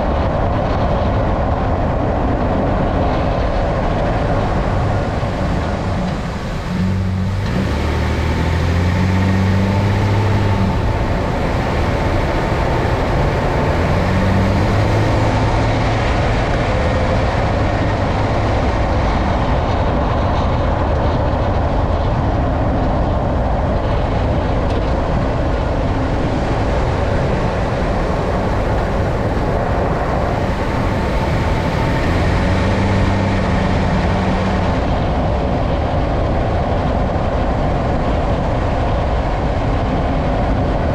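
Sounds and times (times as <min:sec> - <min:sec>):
pickup truck engine and road noise: 0:00.0 - 0:40.9.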